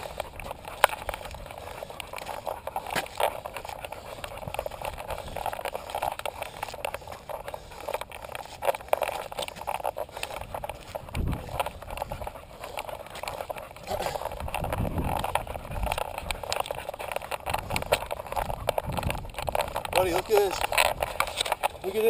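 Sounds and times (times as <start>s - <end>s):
camera mount jostling and rubbing: 0.0s - 21.8s
scuffing rustle: 0.0s - 22.0s.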